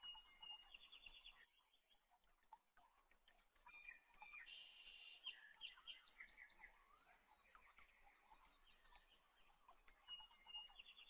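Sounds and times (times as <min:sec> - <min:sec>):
faint bird chirps and trills: 0:00.0 - 0:11.0.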